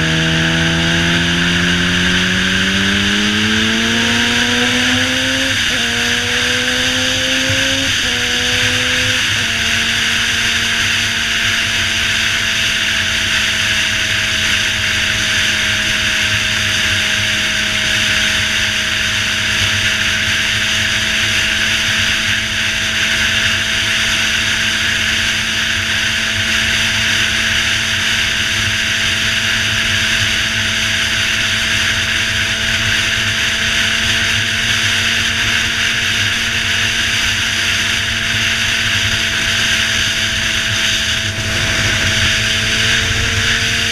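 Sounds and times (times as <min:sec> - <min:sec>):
motorcycle engine droning: 0:00.0 - 0:43.9
wind rush on microphone: 0:02.0 - 0:43.9.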